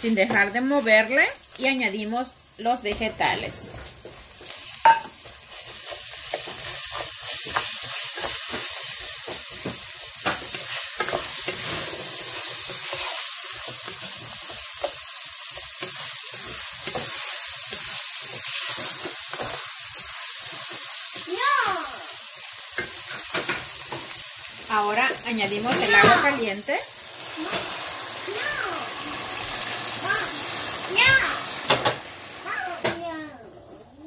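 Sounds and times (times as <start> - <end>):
rice sizzling in oil: 0.0 - 34.0.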